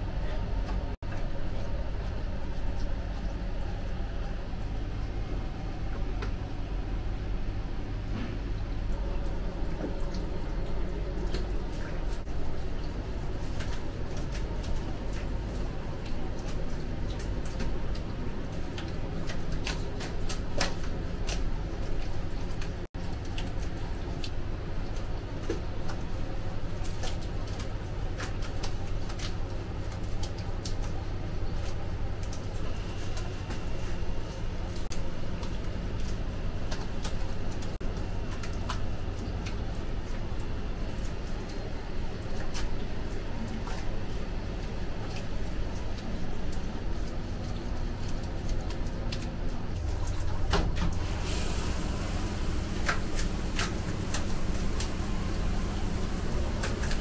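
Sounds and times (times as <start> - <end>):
low kitchen hum: 0.0 - 57.0.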